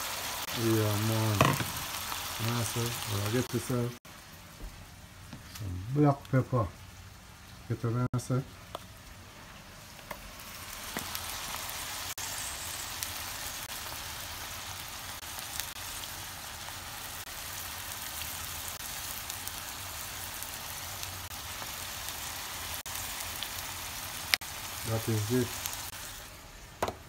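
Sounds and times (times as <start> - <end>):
food sizzling in hot oil: 0.0 - 4.9, 5.6 - 27.0.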